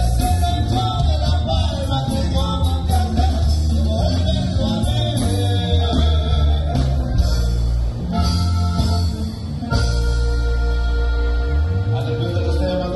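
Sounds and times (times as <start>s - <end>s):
live band with guitars: 0.0s - 12.9s.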